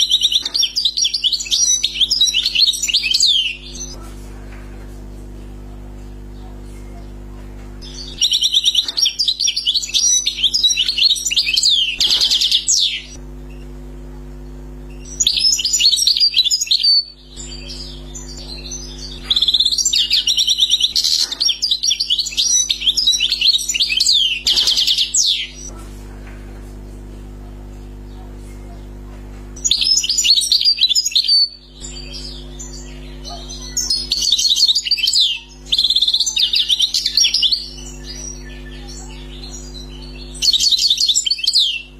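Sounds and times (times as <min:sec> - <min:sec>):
finch twittering song: 0:00.0 - 0:04.1, 0:05.2 - 0:13.7, 0:14.9 - 0:25.8, 0:29.6 - 0:41.9
steady low hum: 0:00.0 - 0:41.9.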